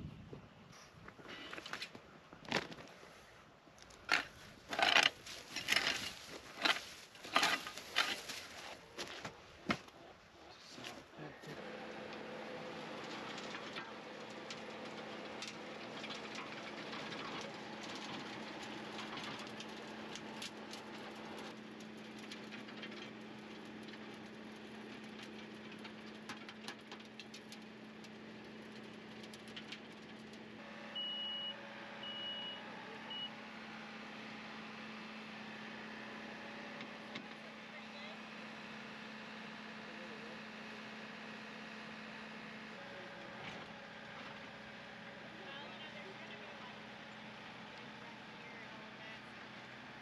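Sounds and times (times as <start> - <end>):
tractor diesel engine running: 3.9 - 10.0, 10.8 - 50.0.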